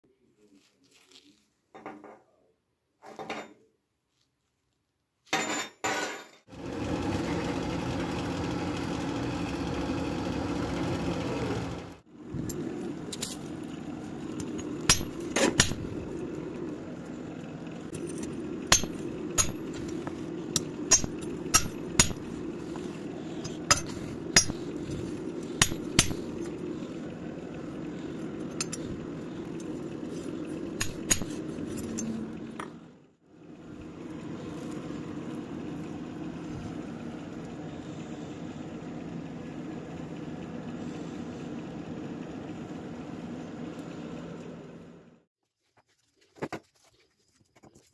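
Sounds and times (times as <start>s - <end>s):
steady hum: 6.5s - 45.2s.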